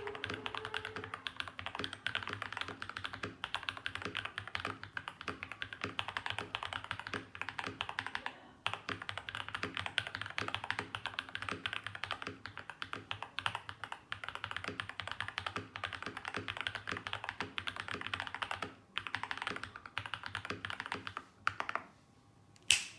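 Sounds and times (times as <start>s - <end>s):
mechanical keyboard typing: 0.0s - 21.8s.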